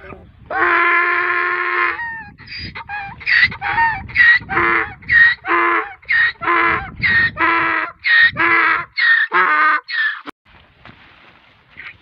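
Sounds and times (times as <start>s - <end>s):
donkey braying: 0.5s - 10.3s.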